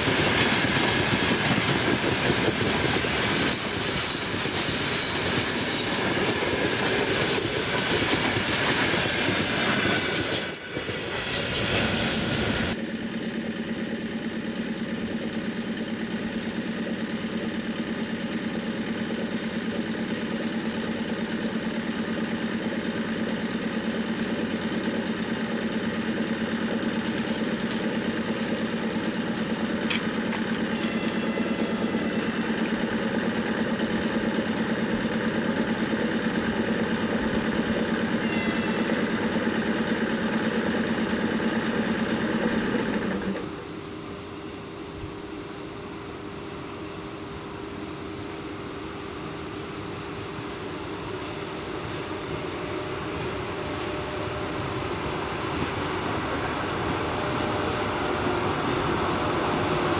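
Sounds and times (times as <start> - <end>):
electric locomotive hum: 0.0 - 59.9.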